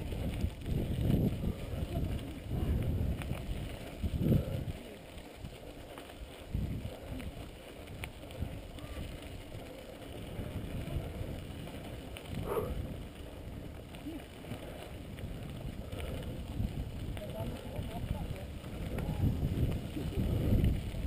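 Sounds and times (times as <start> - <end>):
bike rattling: 0.0 - 21.0
bike tyres rumbling on gravel: 0.0 - 21.0
wind on microphone: 0.0 - 21.0.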